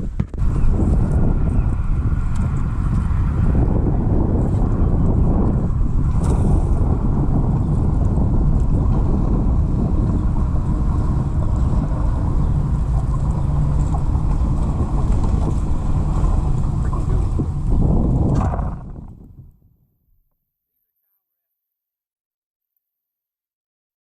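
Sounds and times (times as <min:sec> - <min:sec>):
wind buffeting microphone: 0:00.0 - 0:19.8
outboard motor running: 0:00.1 - 0:19.5.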